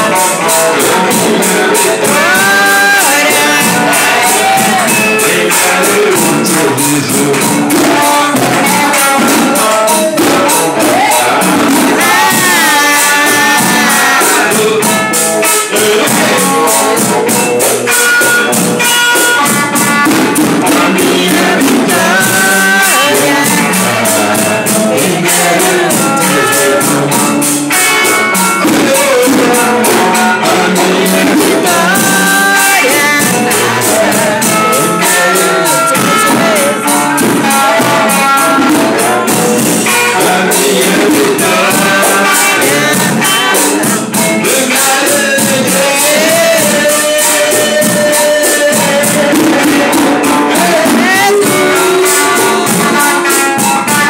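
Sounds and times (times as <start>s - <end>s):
electric guitar: 0.0s - 54.0s
man singing: 0.0s - 54.0s
steady percussion beat: 0.0s - 54.0s.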